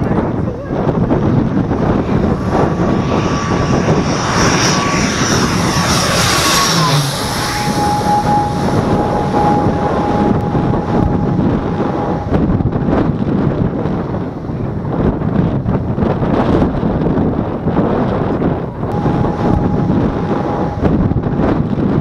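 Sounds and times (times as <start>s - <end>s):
propeller airliner flying overhead: 0.0s - 14.5s, 18.7s - 22.0s.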